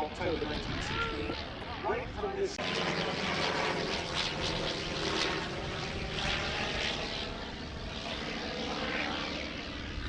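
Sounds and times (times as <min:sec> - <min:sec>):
biplane rotary engine buzzing: 0:00.0 - 0:10.0.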